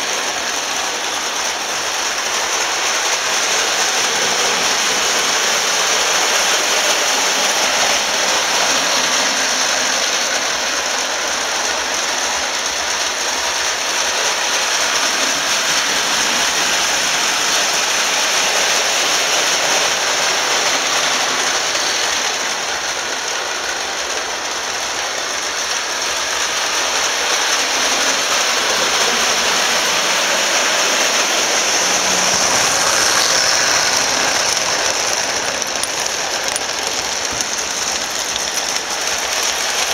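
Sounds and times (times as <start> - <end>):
toy electric trains running: 0.0 - 39.9
wheels on metal rails: 0.0 - 39.9.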